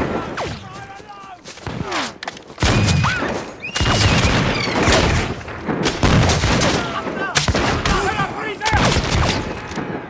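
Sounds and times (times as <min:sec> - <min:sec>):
musket gunshots: 0:01.6 - 0:10.0.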